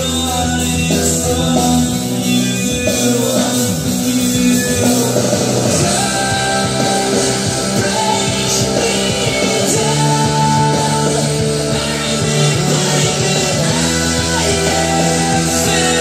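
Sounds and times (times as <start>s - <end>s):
loud rock song with singing: 0.0s - 16.0s.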